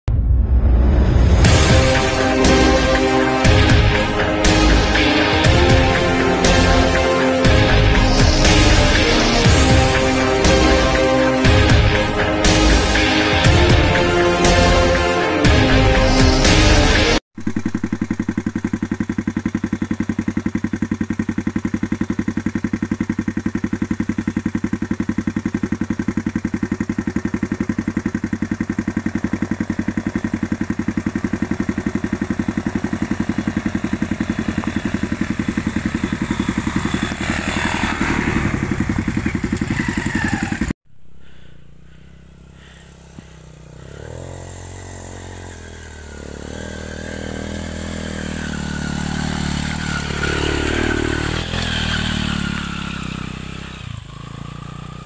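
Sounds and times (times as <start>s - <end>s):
pit bike engine revving: 1.4s - 55.0s
pit bike engines running: 1.4s - 55.0s.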